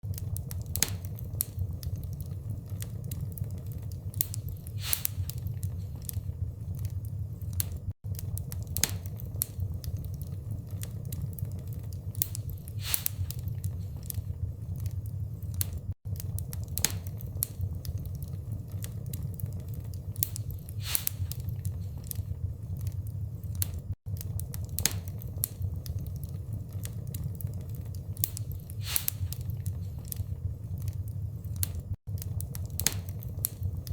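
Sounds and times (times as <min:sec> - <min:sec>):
log fire crackling: 0:00.0 - 0:33.9.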